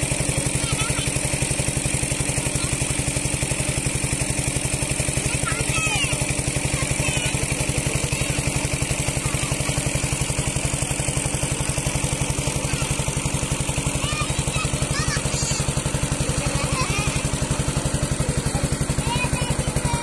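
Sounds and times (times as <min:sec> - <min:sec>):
engine-driven water pump running: 0:00.0 - 0:20.0.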